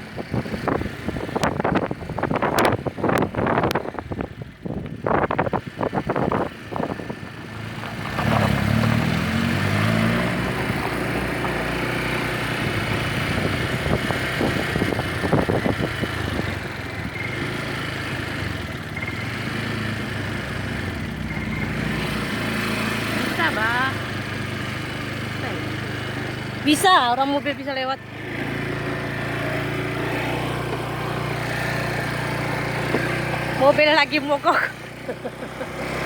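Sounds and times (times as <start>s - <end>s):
small motorcycle engine running: 0.0s - 36.0s.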